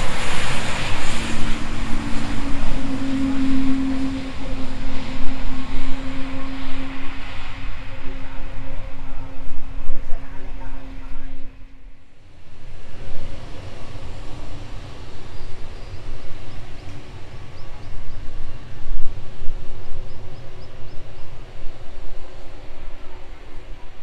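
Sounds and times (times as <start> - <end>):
jet engines rumbling: 0.0 - 24.0
wind buffeting microphone: 0.0 - 24.0.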